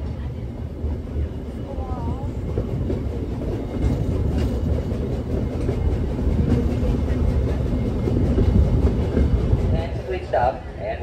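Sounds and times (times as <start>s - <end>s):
train car low rumble: 0.0s - 11.0s.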